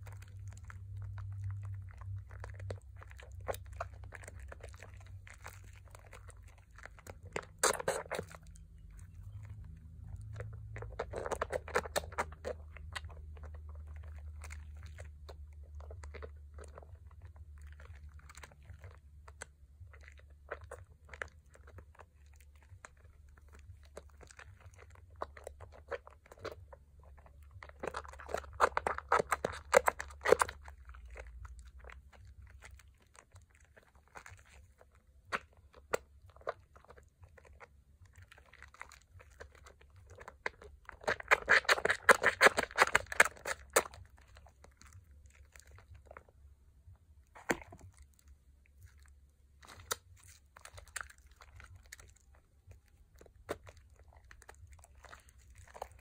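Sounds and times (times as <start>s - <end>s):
wet squishing of soap foam: 0.0s - 56.0s.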